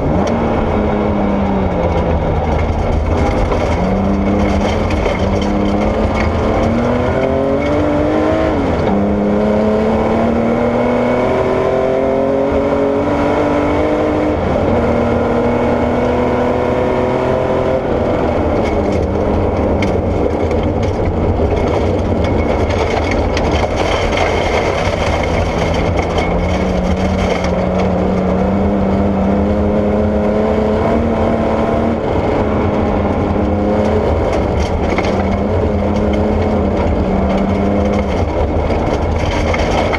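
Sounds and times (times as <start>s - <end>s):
tyres on gravel road noise: 0.0s - 12.1s, 13.6s - 39.9s
car engine revving hard: 0.0s - 20.2s, 23.4s - 39.9s.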